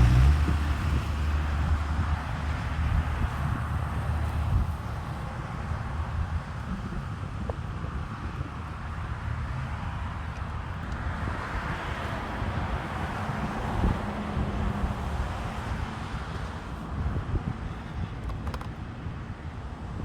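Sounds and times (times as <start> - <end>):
road traffic passing: 0.0 - 20.0
wind rumbling on microphone: 0.0 - 20.0.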